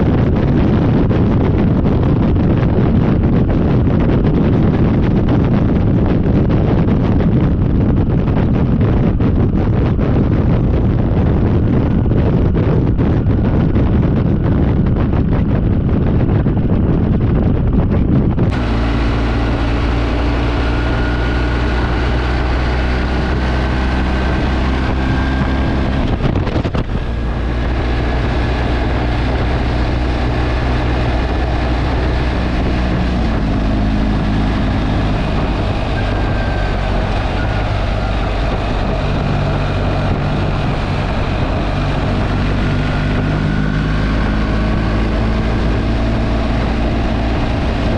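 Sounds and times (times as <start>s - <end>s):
motorcycle engine drone: 0.0s - 47.9s
wind buffeting microphone: 0.0s - 47.9s.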